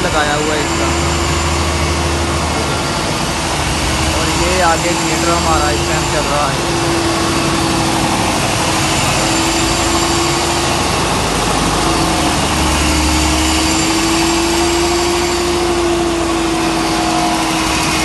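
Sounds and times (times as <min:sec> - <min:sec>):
generator engine running: 0:00.0 - 0:18.0
steady hum: 0:00.0 - 0:18.0.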